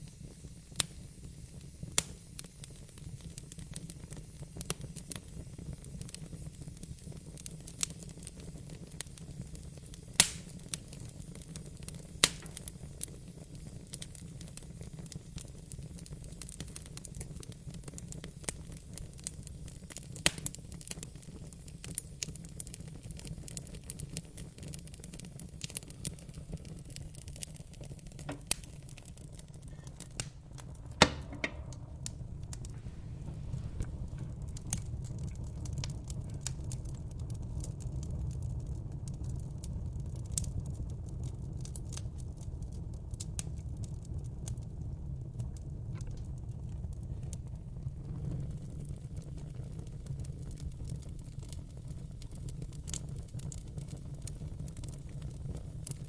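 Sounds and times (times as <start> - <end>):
low rumble of flames: 0.0 - 56.0
sharp snaps of fire: 0.0 - 56.0
wood fire crackling and popping: 0.0 - 56.0.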